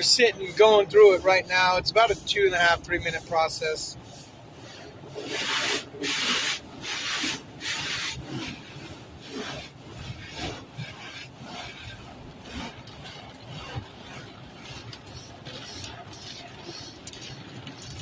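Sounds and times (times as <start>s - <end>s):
car wash machinery swishing: 0.0s - 18.0s.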